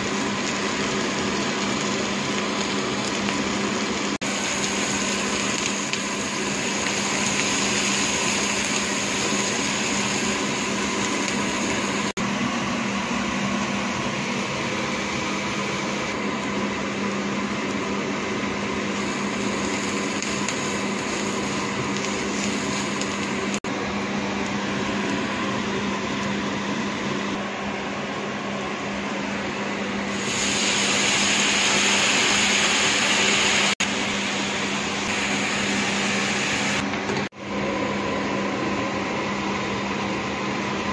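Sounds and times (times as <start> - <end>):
onions sizzling in oil: 0.0 - 27.4, 29.2 - 36.8.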